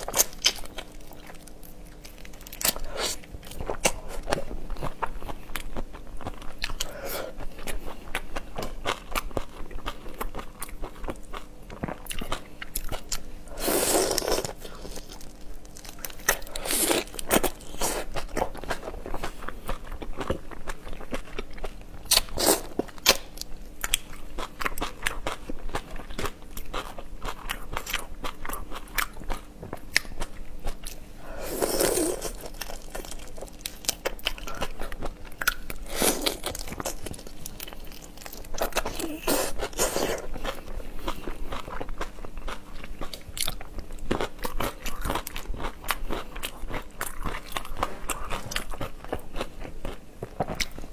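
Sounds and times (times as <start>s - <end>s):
crunching and wet chewing: 0.0s - 50.9s.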